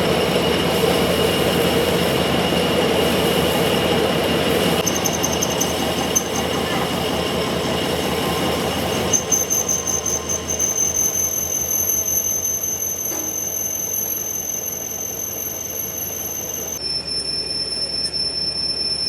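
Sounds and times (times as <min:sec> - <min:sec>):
lathe tool squealing on metal: 0:00.2 - 0:19.0.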